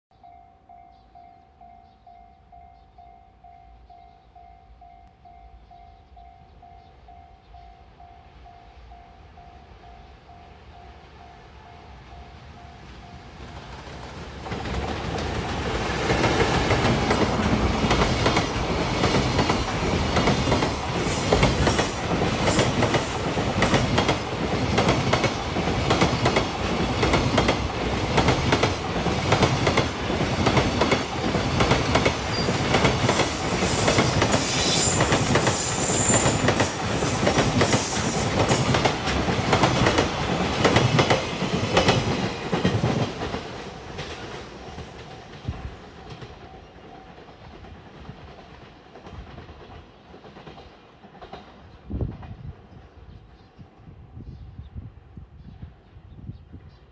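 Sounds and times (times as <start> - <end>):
freight train rumbling past: 0.2 - 53.4.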